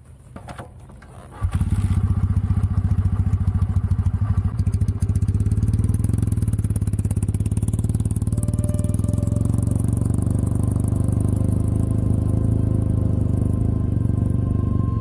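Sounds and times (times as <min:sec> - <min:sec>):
motorcycle engine starting and running: 0:00.4 - 0:15.0.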